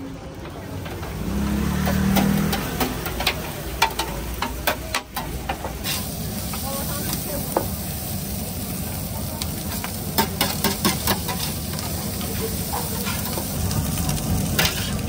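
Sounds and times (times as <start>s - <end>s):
food sizzling: 0.6s - 15.0s.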